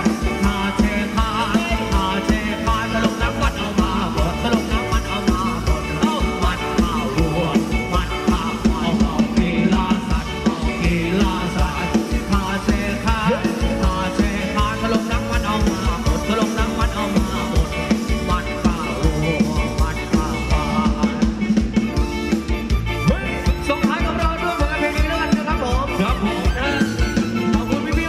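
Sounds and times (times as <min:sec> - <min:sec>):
drum kit beat: 0:00.0 - 0:28.0
keyboard: 0:00.0 - 0:28.0
live band playing dance music: 0:00.0 - 0:28.0.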